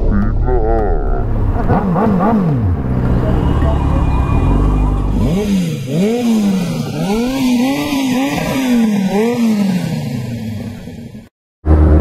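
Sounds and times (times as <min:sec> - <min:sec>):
motorcycle engine revving: 0:01.2 - 0:12.0.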